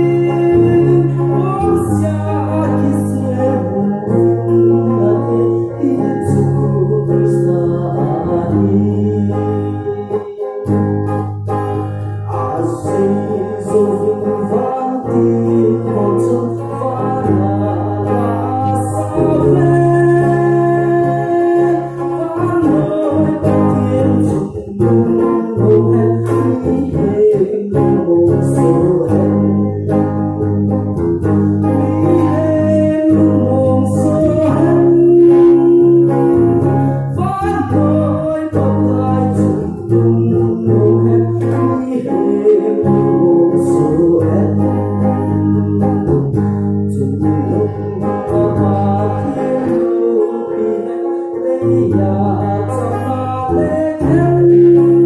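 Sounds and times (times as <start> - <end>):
electric guitar: 0.0 - 55.0
held bass notes: 0.0 - 55.0
man singing into a microphone: 0.0 - 55.0.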